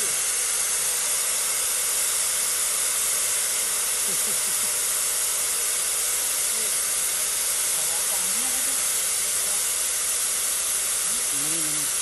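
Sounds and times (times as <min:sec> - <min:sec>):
compressed air hissing: 0:00.0 - 0:12.0.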